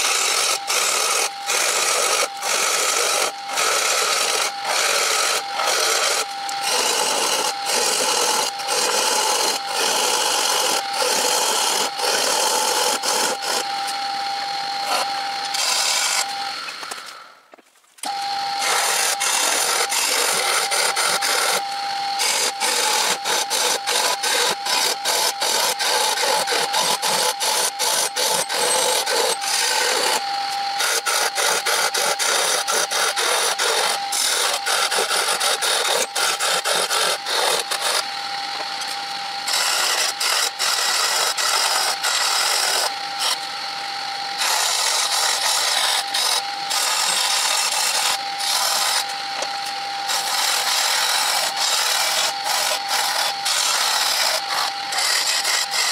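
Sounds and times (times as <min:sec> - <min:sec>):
chisel scraping spinning wood: 0:00.0 - 0:17.1, 0:18.0 - 0:43.5, 0:44.3 - 0:55.9
lathe running tone: 0:00.0 - 0:17.4, 0:18.0 - 0:55.9.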